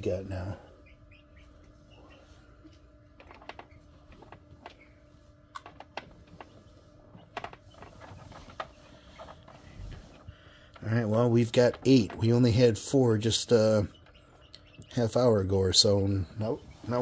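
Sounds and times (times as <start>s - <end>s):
incubator hum: 0.0s - 17.0s
chicks clicking and tapping: 0.4s - 17.0s.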